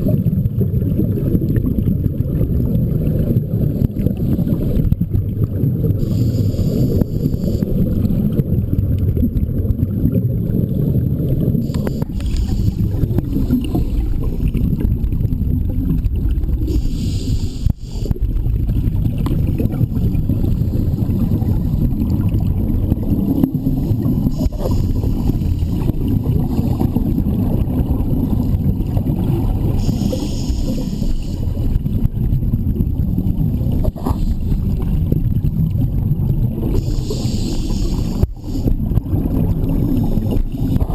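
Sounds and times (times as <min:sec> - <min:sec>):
muffled underwater rumble: 0:00.0 - 0:40.9
regulator bubbles gurgling: 0:00.0 - 0:40.9.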